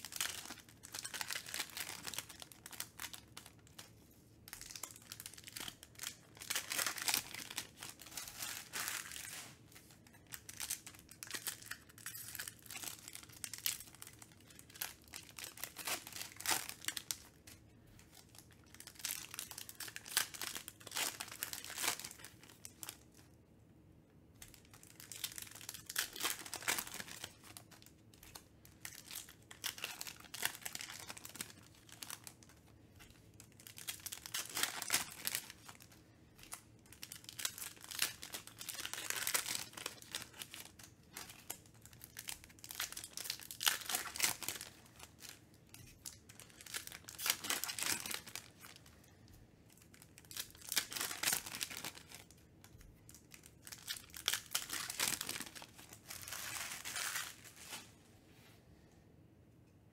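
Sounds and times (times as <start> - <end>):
foil wrappers crinkling and tearing: 0.0 - 23.2, 24.4 - 57.9.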